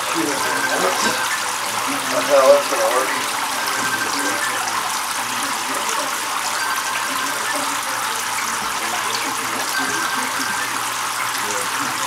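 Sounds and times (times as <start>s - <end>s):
water spraying into tub: 0.0s - 12.0s.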